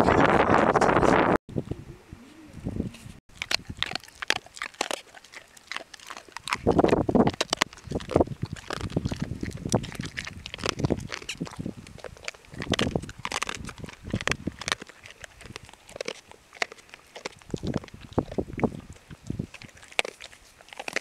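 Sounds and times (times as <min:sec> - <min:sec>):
dog gnawing and licking: 0:03.3 - 0:21.0.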